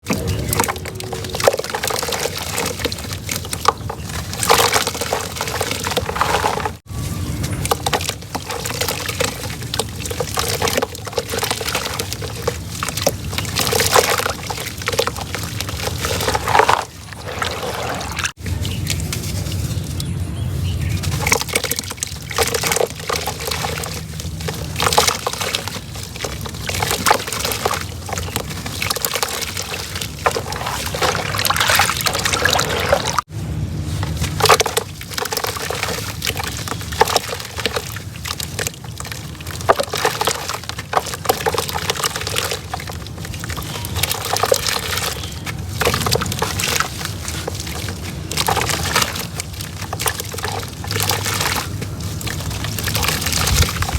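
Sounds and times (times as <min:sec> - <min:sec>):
cement crumbling and crunching: 0:00.0 - 0:19.8, 0:21.0 - 0:33.3, 0:33.9 - 0:53.9
crumbs pattering down: 0:00.0 - 0:53.9.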